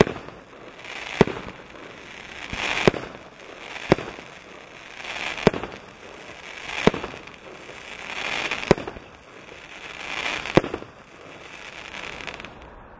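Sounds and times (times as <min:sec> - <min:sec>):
firework reports: 0:00.0 - 0:12.9
hiss of burning stars: 0:00.0 - 0:12.9.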